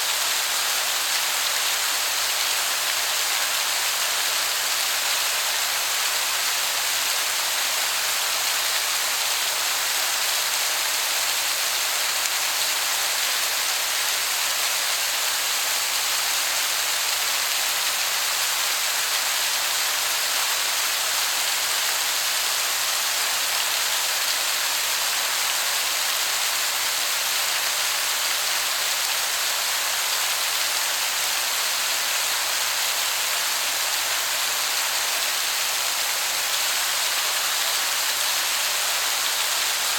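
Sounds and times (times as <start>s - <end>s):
distant waterfall hiss: 0.0s - 39.9s.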